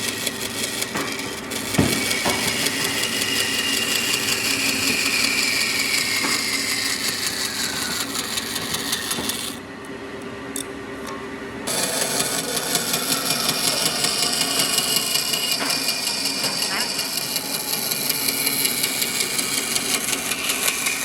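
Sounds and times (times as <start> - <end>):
power tool cutting wood: 0.0 - 9.6, 11.7 - 21.0.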